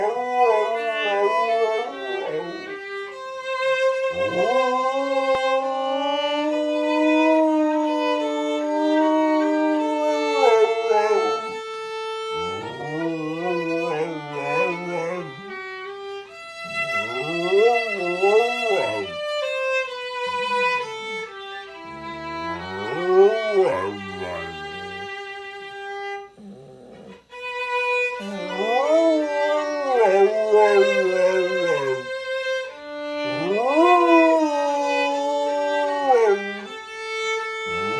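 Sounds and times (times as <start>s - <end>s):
dog howling: 0.0s - 25.4s, 26.3s - 27.2s, 28.0s - 32.2s, 33.1s - 37.9s
violin playing slow notes: 0.0s - 37.9s.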